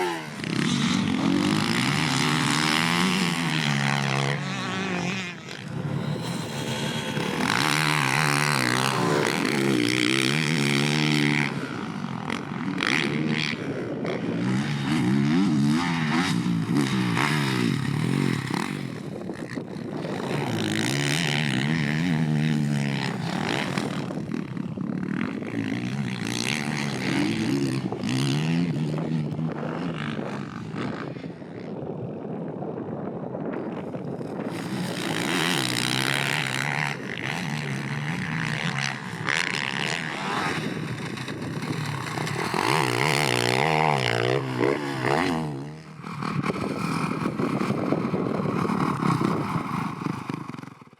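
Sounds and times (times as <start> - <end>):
motocross bike engine revving: 0.0 - 19.1, 20.0 - 31.0, 34.3 - 50.9.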